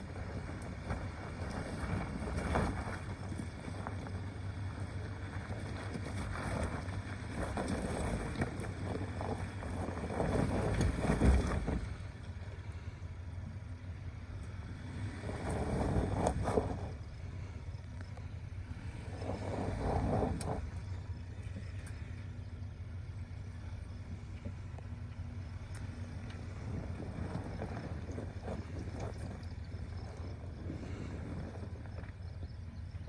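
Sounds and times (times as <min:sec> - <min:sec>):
rocks crunching under tyres: 0:00.0 - 0:33.0
truck engine climbing at a crawl: 0:00.0 - 0:33.0.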